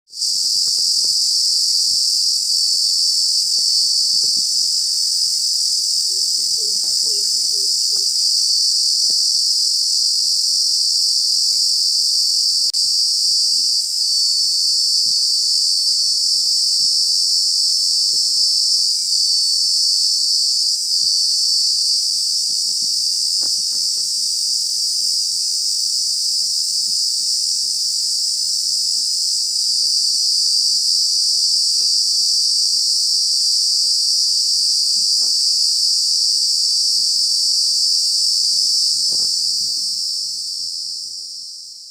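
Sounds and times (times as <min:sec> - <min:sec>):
insects chirring: 0:00.2 - 0:41.9.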